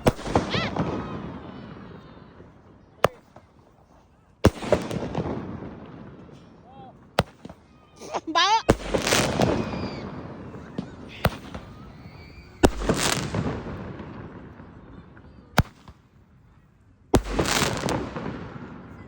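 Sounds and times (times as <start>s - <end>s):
fireworks bangs: 0.0s - 16.1s, 17.1s - 19.0s.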